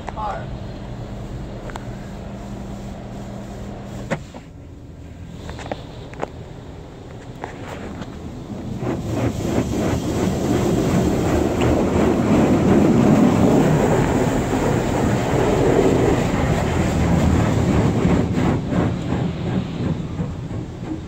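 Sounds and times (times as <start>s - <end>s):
water jets hammering car body: 1.0s - 21.0s.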